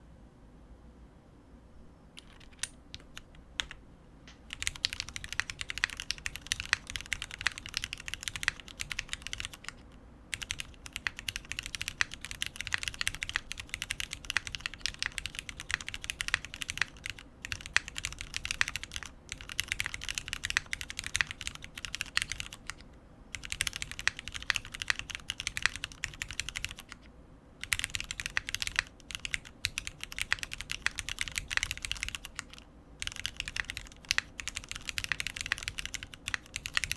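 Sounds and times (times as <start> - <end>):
typing on mechanical keyboard: 2.2 - 3.8, 4.5 - 27.0, 27.6 - 36.9.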